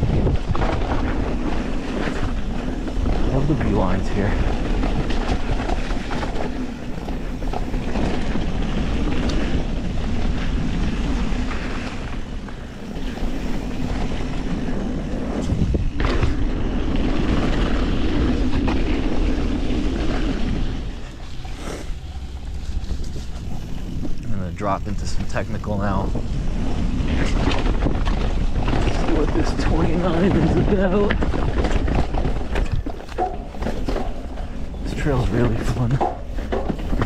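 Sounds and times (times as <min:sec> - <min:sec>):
bike knocks and rattles: 0:00.0 - 0:21.6, 0:24.9 - 0:37.0
bike tyre roar: 0:00.0 - 0:37.0
wind rushing over microphone: 0:00.0 - 0:37.0.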